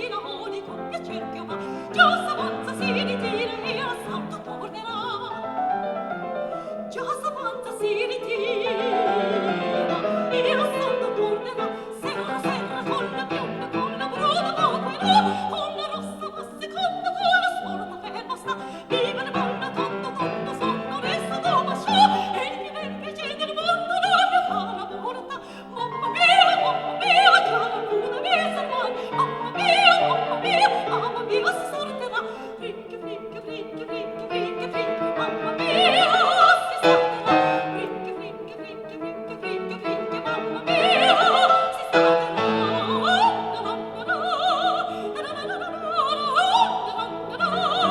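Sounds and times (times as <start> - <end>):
operatic singing over orchestra: 0.0 - 5.7, 6.9 - 47.9.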